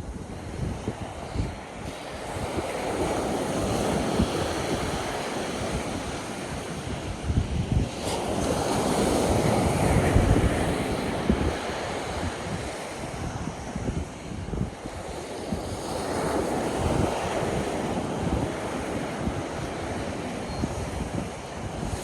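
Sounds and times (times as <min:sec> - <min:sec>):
ocean surf washing onto beach: 0:00.0 - 0:22.0
wind buffeting microphone: 0:00.0 - 0:22.0.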